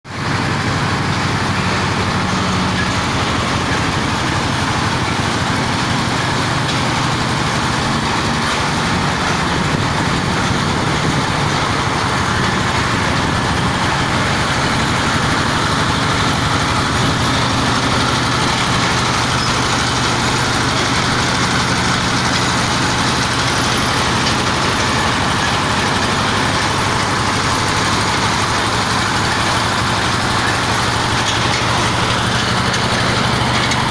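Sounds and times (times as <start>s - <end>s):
drilling rig machine noise: 0.1s - 33.9s.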